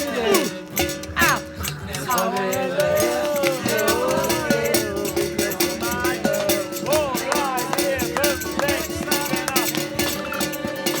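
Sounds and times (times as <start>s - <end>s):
held instrument notes: 0.0s - 11.0s
quick rattling percussion: 0.0s - 11.0s
voices: 0.0s - 11.0s.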